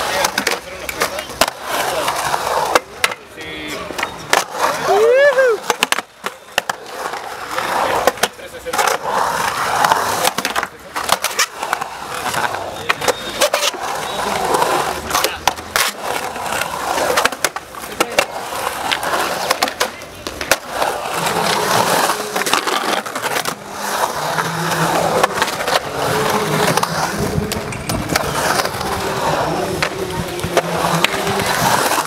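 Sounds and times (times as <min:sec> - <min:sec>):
skateboard clacking on coping: 0:00.0 - 0:32.0
skateboard wheels rolling on concrete: 0:00.0 - 0:32.0.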